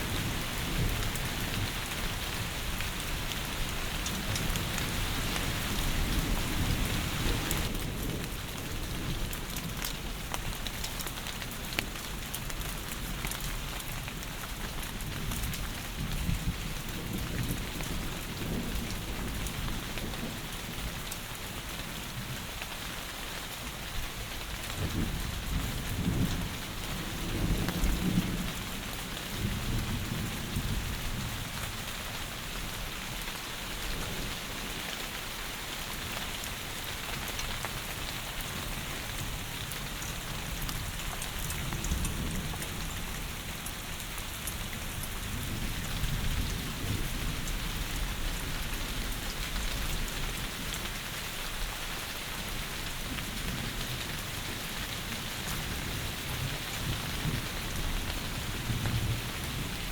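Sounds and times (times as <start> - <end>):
low rumble of thunder: 0.0 - 22.5, 24.4 - 33.2, 37.8 - 51.8, 52.4 - 59.9
heavy rain: 0.0 - 59.9.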